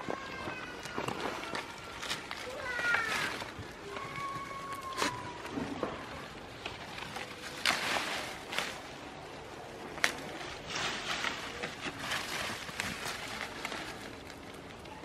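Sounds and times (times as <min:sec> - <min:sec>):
leaves rustling and tearing: 0:00.0 - 0:15.0.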